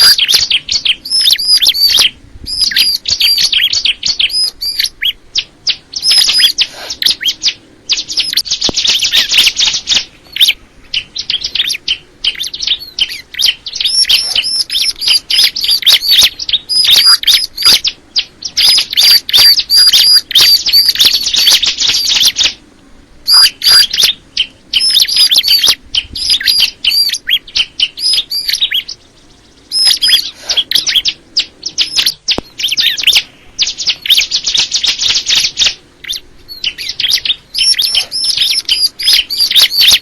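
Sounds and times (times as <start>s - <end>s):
bird chirping rapidly: 0.0s - 22.6s, 23.2s - 40.0s
buzzy bird trills: 0.0s - 40.0s.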